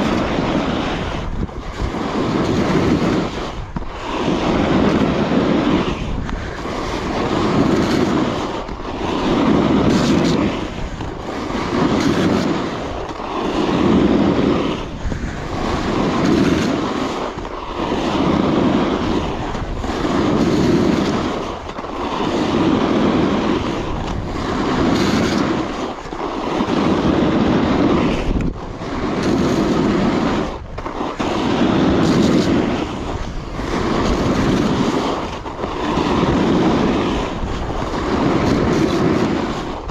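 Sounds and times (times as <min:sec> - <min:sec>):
snowboard edge scraping snow: 0:00.0 - 0:39.9
wind rushing over microphone: 0:00.0 - 0:39.9.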